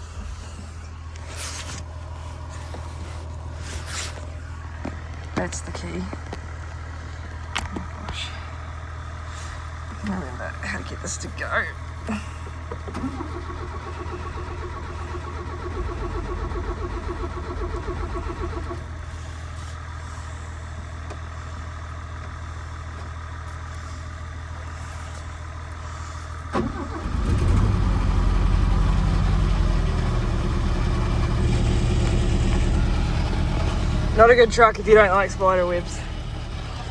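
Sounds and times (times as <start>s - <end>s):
truck engine idling: 0.0s - 36.9s.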